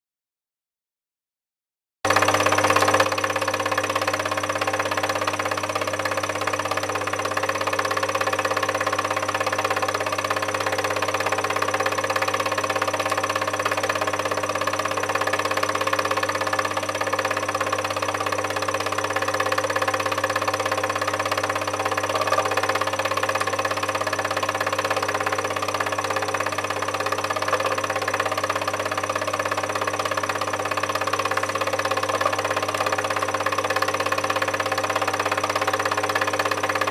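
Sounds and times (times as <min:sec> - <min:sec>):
film projector whirring: 0:02.1 - 0:36.9.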